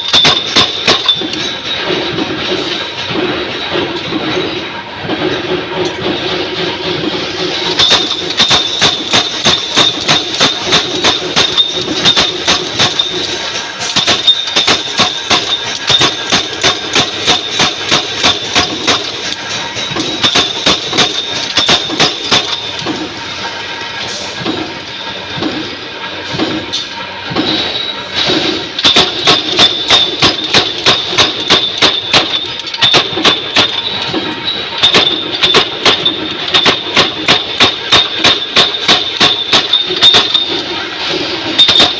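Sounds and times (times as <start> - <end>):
punch press metallic strokes: 0.0 - 4.7, 5.8 - 41.9.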